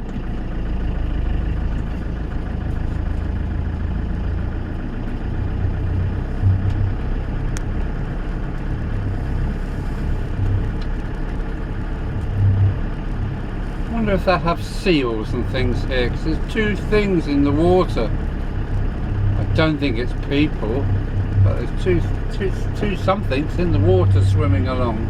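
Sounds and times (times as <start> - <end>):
van engine running: 0.0 - 25.0.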